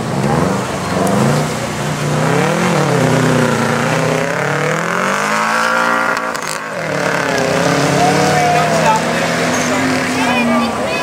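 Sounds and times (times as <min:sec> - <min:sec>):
race engine accelerating hard: 0:00.0 - 0:11.0.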